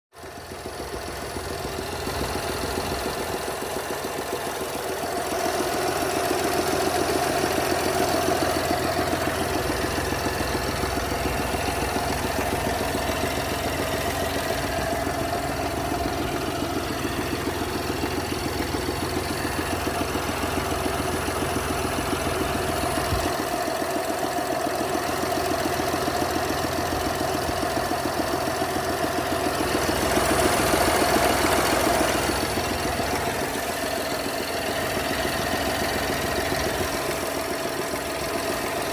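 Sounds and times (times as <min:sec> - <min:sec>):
car engine idling with ticking: 0:00.1 - 0:38.9.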